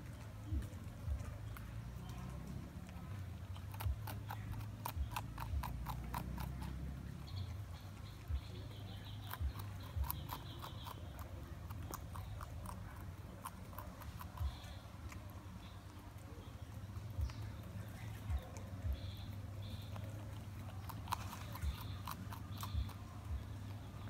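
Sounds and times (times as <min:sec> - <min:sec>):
porcupine chewing leaves: 0:00.0 - 0:24.0.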